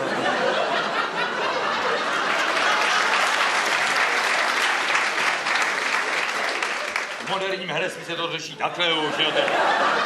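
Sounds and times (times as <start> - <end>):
audience laughing: 0.0 - 10.0
audience clapping: 1.8 - 10.0.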